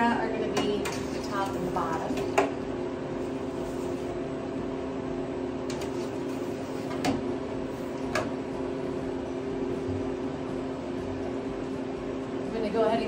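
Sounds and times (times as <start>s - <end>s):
freeze dryer humming: 0.0s - 13.0s.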